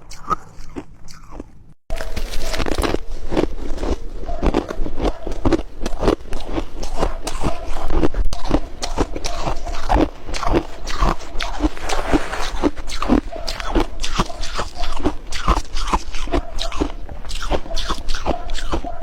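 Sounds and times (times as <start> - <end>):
ice crunching while chewing: 0.0 - 19.0.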